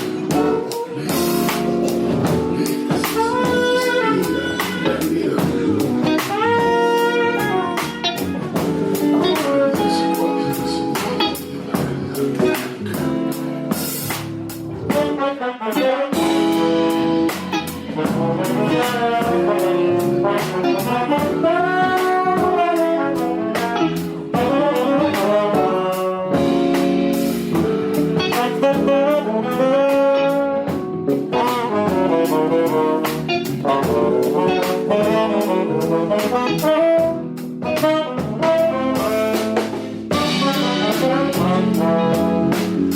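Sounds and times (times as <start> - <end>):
drums with cymbal strikes: 0.0 - 15.2, 15.8 - 42.9
electric bass: 0.0 - 15.2, 16.0 - 42.9
electric guitar: 0.0 - 42.9
piano: 0.0 - 42.9
tenor saxophone: 0.0 - 42.9
trombone: 0.0 - 42.9.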